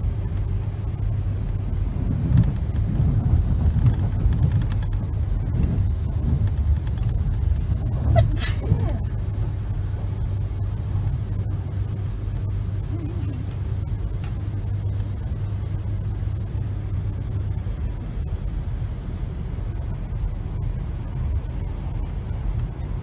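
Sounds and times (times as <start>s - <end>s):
train carriage rumble and hum: 0.0s - 23.0s.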